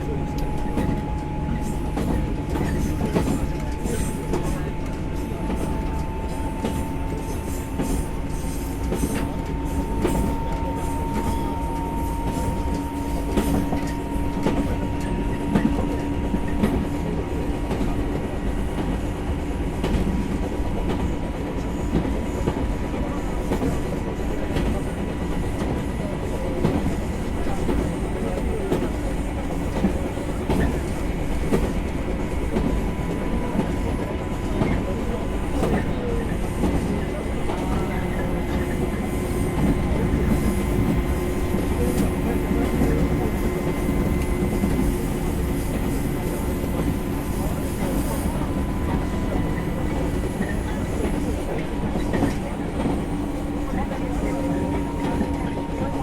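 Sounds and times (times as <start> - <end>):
clickety-clack of rail joints: 0.0 - 56.0.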